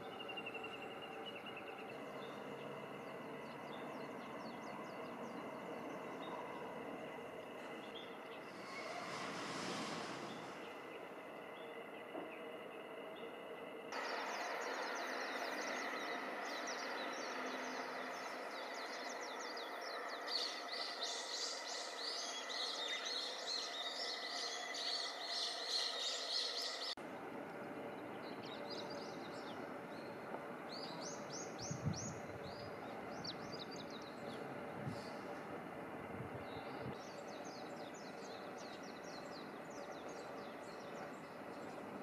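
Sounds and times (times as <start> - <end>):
small birds chirping: 0.0 - 27.0, 27.7 - 35.6, 36.4 - 42.0
steady background hum: 0.0 - 42.0.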